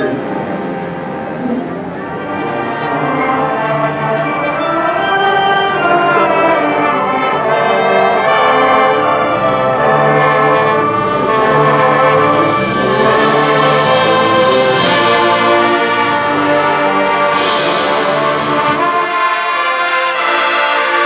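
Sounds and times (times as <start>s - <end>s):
marching band brass chords: 0.0s - 21.0s.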